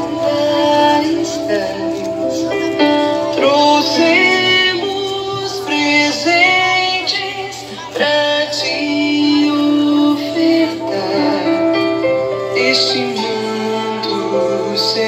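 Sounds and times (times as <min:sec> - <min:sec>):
woman singing a slow hymn: 0:00.0 - 0:15.0.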